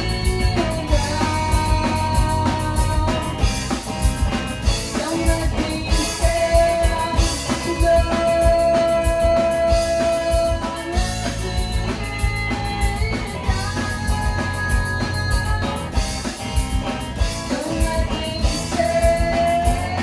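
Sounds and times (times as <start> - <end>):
drum kit beat: 0.0 - 20.0
electric guitar: 0.0 - 20.0.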